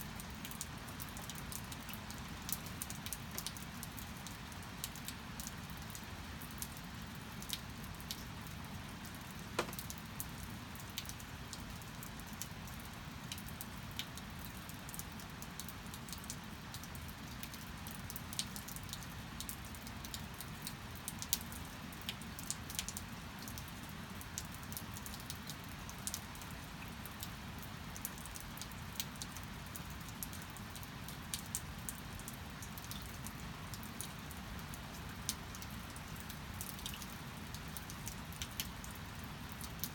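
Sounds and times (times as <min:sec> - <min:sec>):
steady rain: 0:00.0 - 0:39.9
sharp drops and drips: 0:00.2 - 0:39.9.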